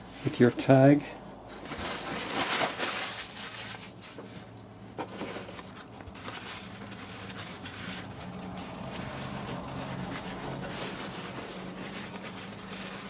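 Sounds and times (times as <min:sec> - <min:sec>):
tissue paper rustling: 0:01.5 - 0:13.0.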